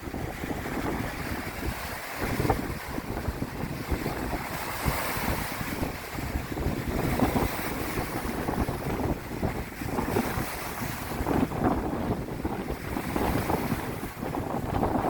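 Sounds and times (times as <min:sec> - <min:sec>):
waves breaking on shore: 0:00.0 - 0:15.0
wind buffeting microphone: 0:00.0 - 0:15.0.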